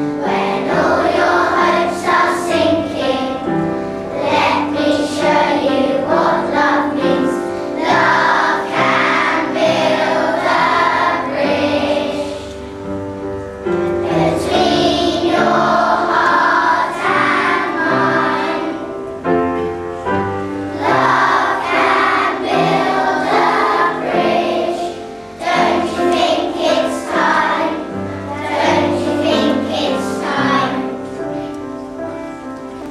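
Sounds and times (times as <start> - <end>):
children's choir singing: 0.0 - 32.9
low accompaniment: 0.0 - 32.9.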